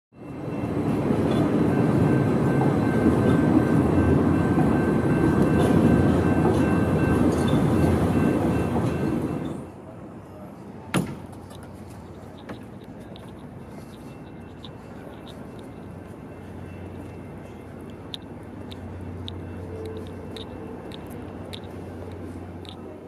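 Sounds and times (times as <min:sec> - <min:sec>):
train rumbling past: 0:00.2 - 0:23.0.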